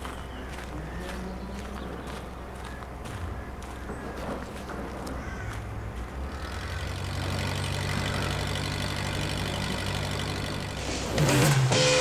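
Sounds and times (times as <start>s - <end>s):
heavy machine engine idling: 0.5s - 11.6s.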